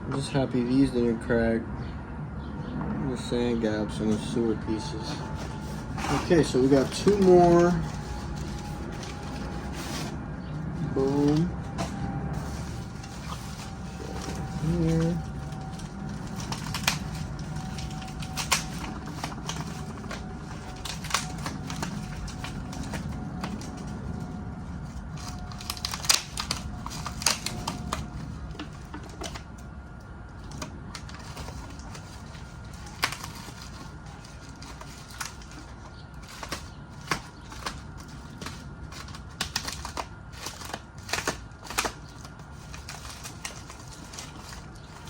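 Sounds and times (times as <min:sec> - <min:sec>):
packaging rustling: 0:04.1 - 0:45.0.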